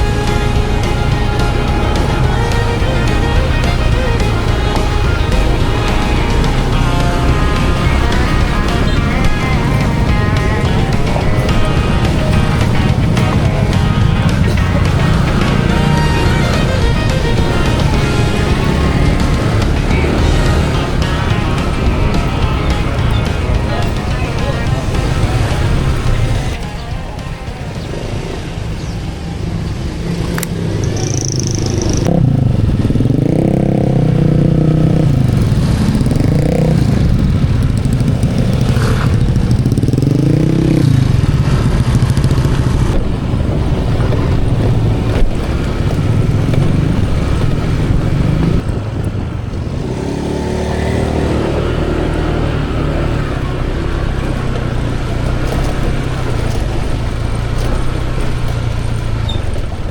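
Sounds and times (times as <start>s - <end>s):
small engine revving: 0.0s - 26.8s, 27.8s - 59.9s.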